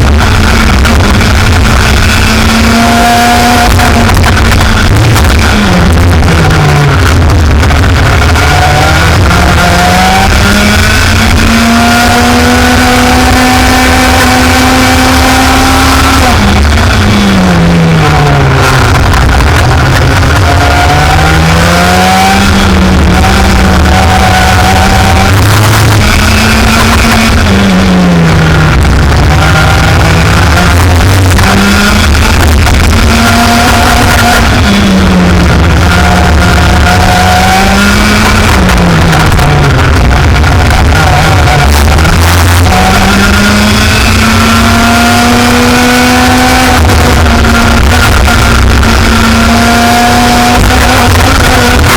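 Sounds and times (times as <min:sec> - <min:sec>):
kart engine revving: 0:00.0 - 0:51.9.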